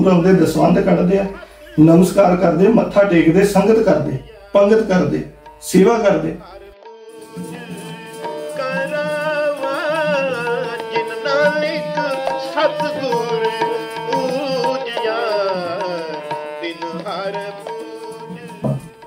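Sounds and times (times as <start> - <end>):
harmonium: 0.0 - 19.0
man singing a devotional hymn: 0.0 - 19.0
tabla: 0.0 - 19.0.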